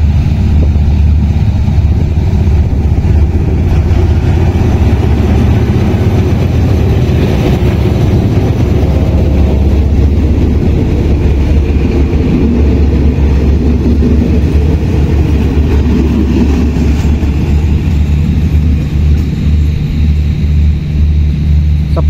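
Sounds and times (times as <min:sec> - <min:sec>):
diesel locomotive engine running: 0:00.0 - 0:22.0
train coaches rumbling on rails: 0:00.0 - 0:22.0.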